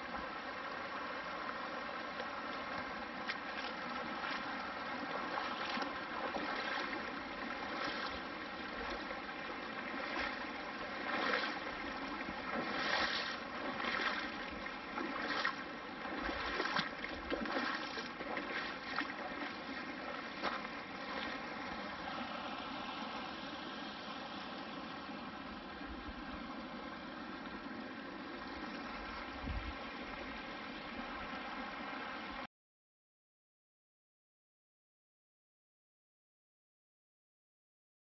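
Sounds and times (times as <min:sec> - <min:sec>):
creek running over rocks: 0:00.0 - 0:32.5.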